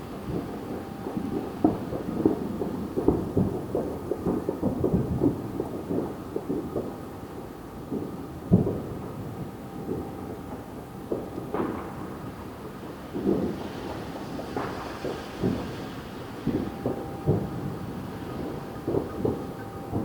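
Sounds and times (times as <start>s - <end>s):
distant fireworks booming and popping: 0.0s - 20.0s.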